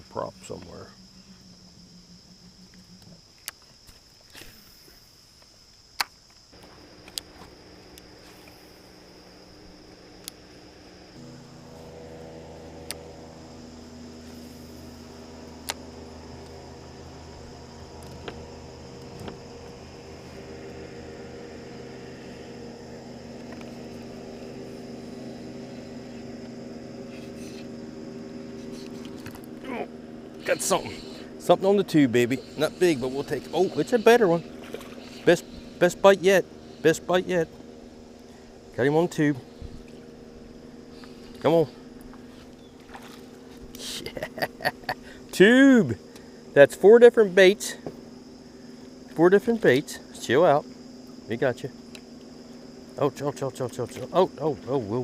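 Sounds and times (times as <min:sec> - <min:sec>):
insects trilling: 0:00.0 - 0:55.0
small boat motor humming: 0:00.0 - 0:55.0.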